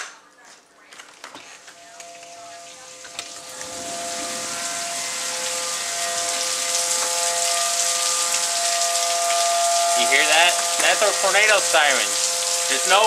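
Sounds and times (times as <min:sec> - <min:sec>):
tornado warning siren wailing: 0:01.6 - 0:13.0.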